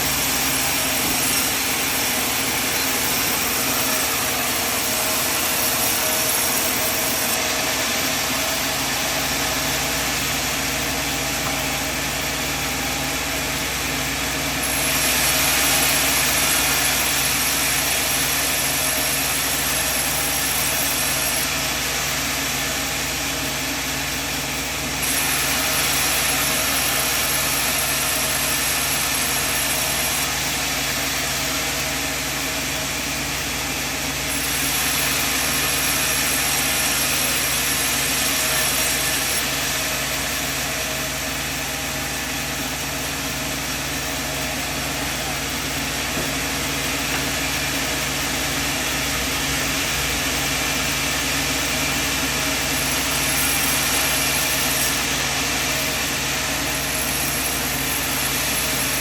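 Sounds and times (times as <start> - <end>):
sawmill machine humming: 0.0 - 59.0.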